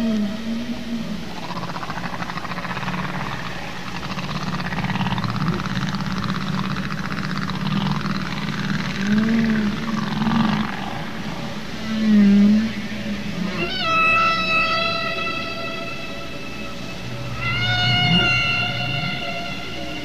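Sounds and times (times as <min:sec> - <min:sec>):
steady low underwater hum: 0:00.0 - 0:20.0
whale song moans and squeals: 0:00.0 - 0:20.0.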